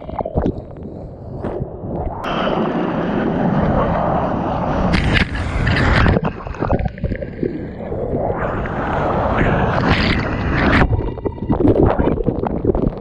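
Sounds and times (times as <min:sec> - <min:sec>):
seawater rushing and sloshing: 0:01.2 - 0:13.0.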